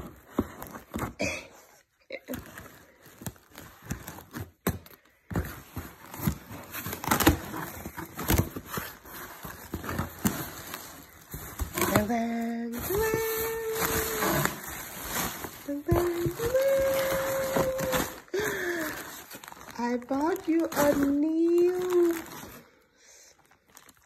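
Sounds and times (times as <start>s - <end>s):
plastic packaging rustling: 2.2s - 24.0s
cardboard box being torn open: 2.3s - 22.6s.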